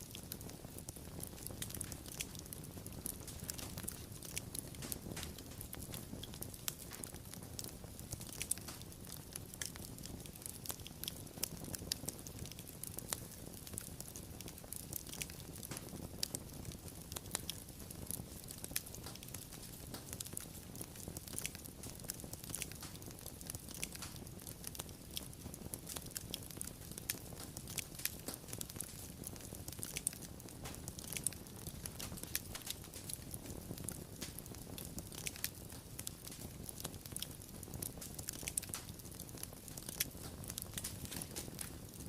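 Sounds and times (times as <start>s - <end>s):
low rumble of burning: 0.0s - 42.0s
wood fire crackling: 0.0s - 42.0s.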